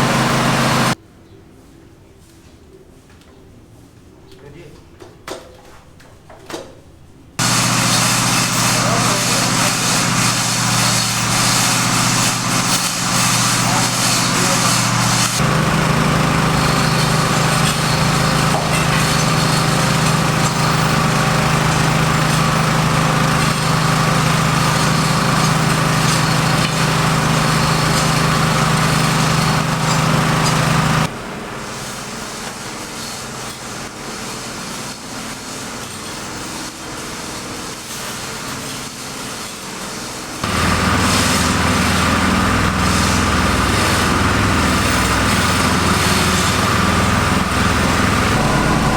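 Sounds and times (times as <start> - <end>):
small engine running: 0.0 - 1.0, 7.4 - 48.9.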